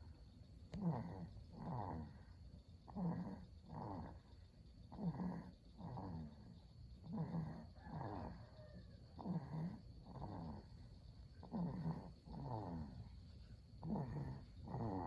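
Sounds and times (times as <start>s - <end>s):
child snoring: 0.7s - 13.2s, 13.8s - 15.0s.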